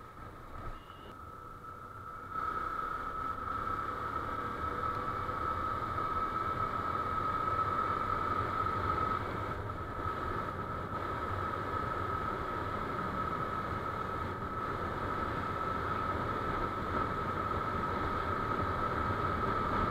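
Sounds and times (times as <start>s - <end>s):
motorcycle engine cruising: 0.0s - 19.9s
steady high whine: 0.0s - 19.9s
wind rush on microphone: 2.3s - 19.9s.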